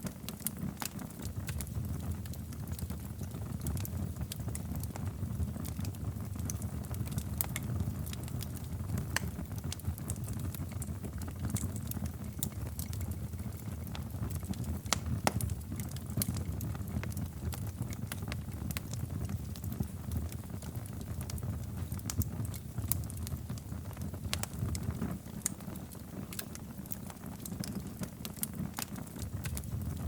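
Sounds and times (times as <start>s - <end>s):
fireplace fire crackling: 0.0s - 30.0s.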